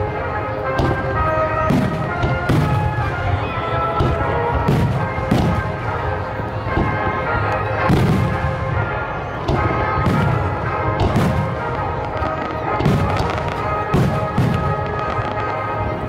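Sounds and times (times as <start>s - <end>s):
fireworks booming: 0.0s - 16.0s
music playing: 0.0s - 16.0s.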